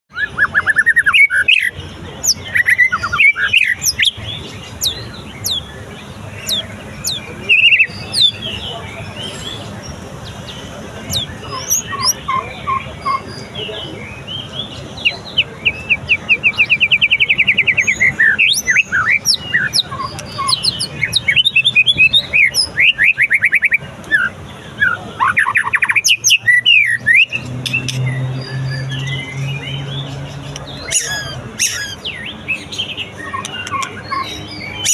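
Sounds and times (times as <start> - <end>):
songbird singing trills and whistles: 0.1 - 34.9.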